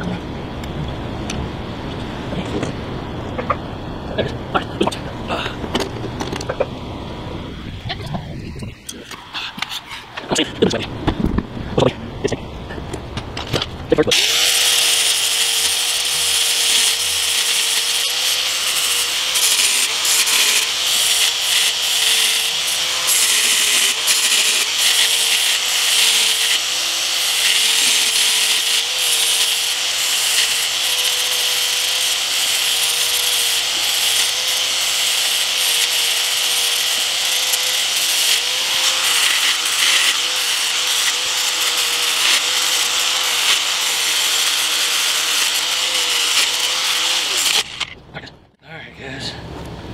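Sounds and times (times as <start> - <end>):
power tool grinding plastic: 4.2 - 48.0.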